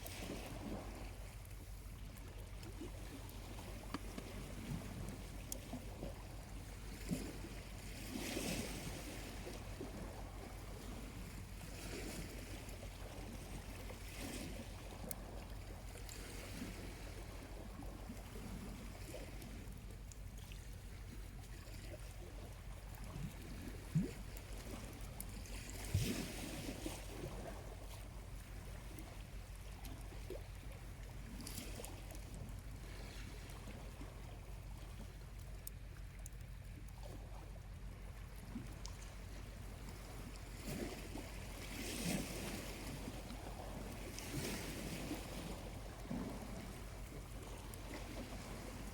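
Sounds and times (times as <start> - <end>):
small waves washing onto shore: 0.0 - 48.9.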